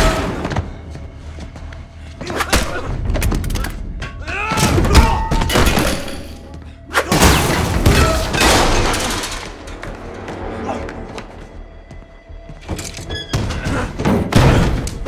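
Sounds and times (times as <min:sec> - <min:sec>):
dramatic background music: 0:00.0 - 0:15.0.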